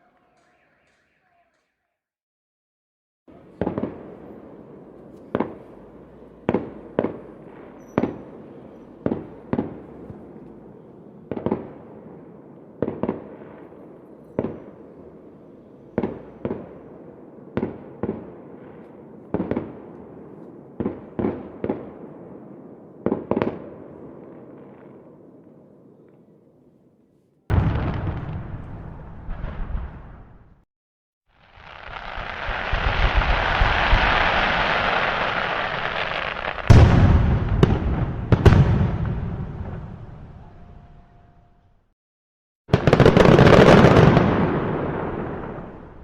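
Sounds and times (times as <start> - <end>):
fireworks exploding: 3.3 - 15.2, 15.9 - 25.2, 27.5 - 30.6, 31.4 - 40.8, 42.7 - 46.0.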